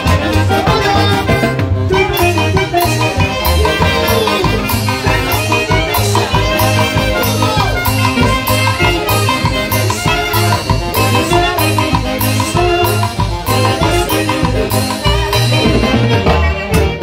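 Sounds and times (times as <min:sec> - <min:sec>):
bass drum beat: 0:00.0 - 0:17.0
saxophones playing melody: 0:00.0 - 0:17.0.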